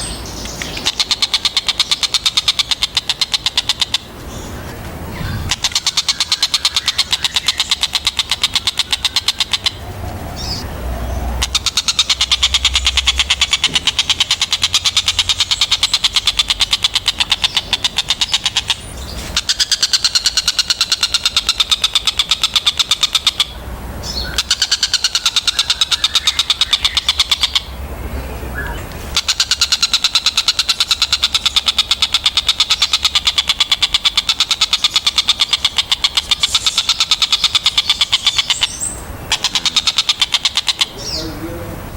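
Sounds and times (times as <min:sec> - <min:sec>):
kingfisher calling: 0:00.0 - 0:09.8, 0:10.4 - 0:27.8, 0:28.5 - 0:41.9.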